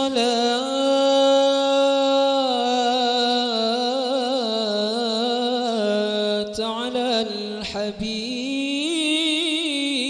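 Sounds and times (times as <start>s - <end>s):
man singing into a microphone: 0.0s - 10.0s.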